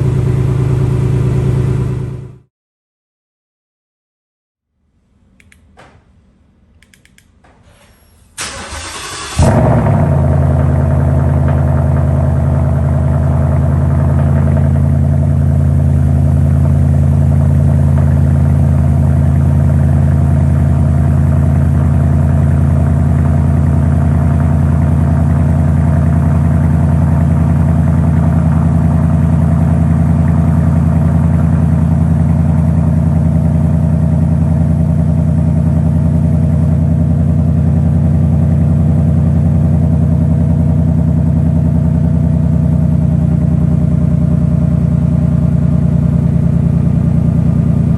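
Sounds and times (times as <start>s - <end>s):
car engine idling: 0.0s - 2.4s, 8.4s - 47.9s.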